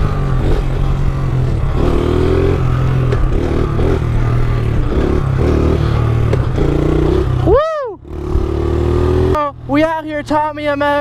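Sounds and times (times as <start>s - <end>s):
motorbike engine revving: 0.0s - 9.7s.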